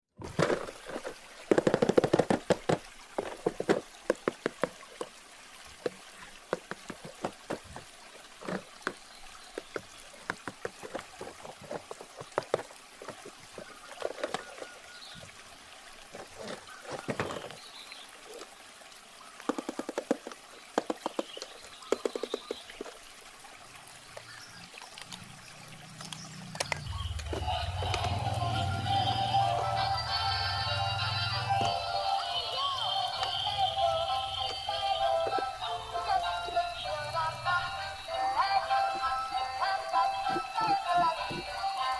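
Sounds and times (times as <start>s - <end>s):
water trickling and pouring: 0.2s - 41.9s.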